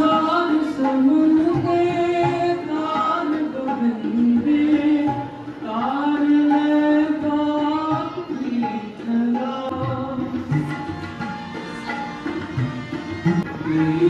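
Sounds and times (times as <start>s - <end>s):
tabla drumming: 0.0s - 14.0s.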